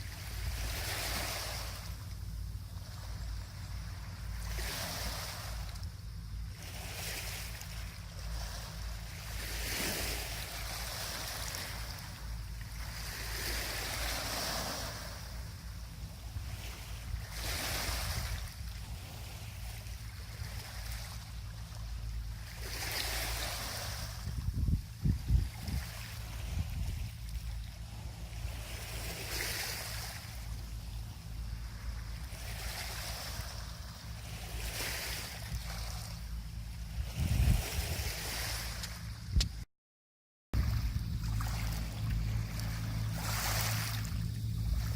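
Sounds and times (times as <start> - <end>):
sea waves breaking on beach: 0.0 - 39.1, 40.6 - 44.9
steady low rumble: 0.0 - 39.7, 40.6 - 44.9.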